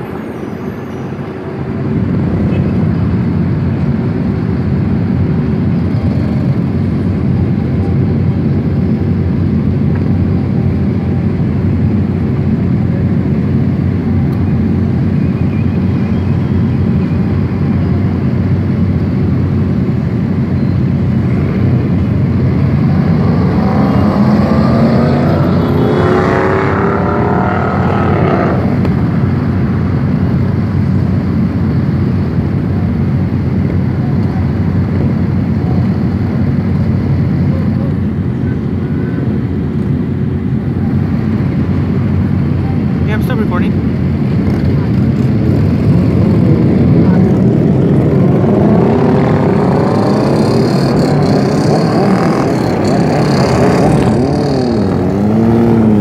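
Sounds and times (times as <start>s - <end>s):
motorcycle engines rumbling: 0.0s - 56.0s.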